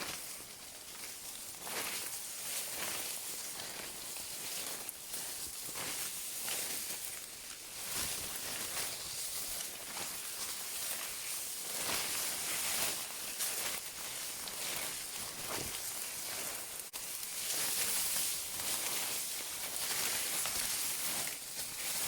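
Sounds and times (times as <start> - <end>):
footsteps crunching on a trail: 0.0 - 22.0.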